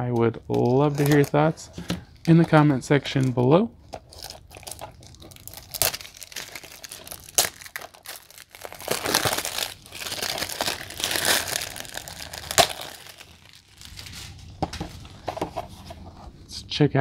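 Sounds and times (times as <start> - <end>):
plastic shrink wrap crinkling: 0.5 - 15.8.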